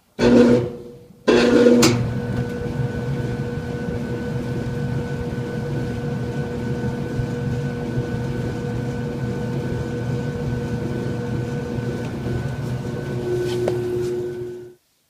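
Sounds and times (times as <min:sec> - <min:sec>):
clothes dryer running: 0:00.0 - 0:14.8.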